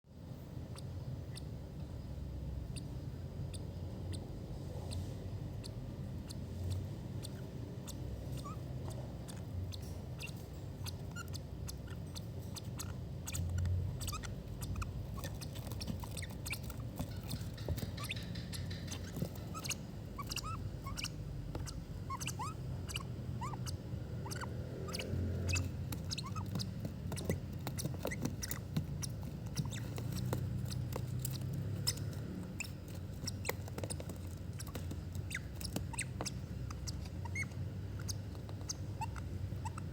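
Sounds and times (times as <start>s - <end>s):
baby birds squeaking and chirping: 0.6s - 39.9s.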